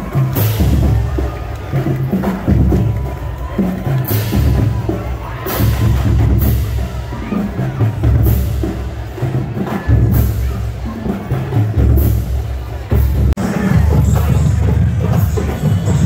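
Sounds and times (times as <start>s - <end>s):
bass drums pounding: 0.0s - 16.0s.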